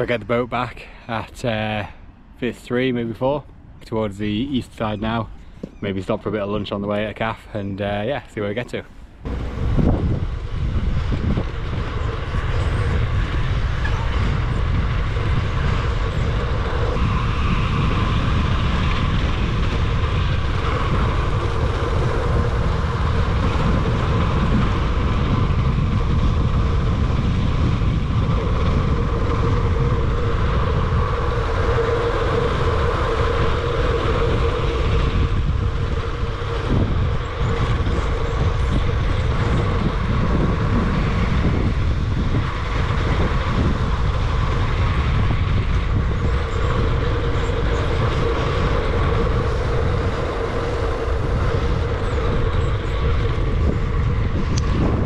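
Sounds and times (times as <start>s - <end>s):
wind buffeting microphone: 0.0s - 55.0s
bicycle tyres rumbling on pavement: 9.2s - 55.0s.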